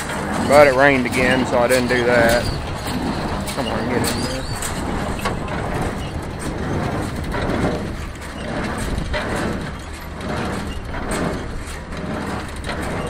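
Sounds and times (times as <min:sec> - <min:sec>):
hay baler plunger working: 0:00.0 - 0:13.0
tractor rumble: 0:00.0 - 0:13.0.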